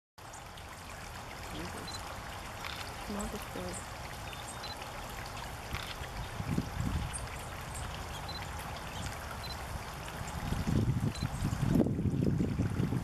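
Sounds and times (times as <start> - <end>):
water dripping: 0.2 - 13.0
water splashing in a birdbath: 0.2 - 13.0.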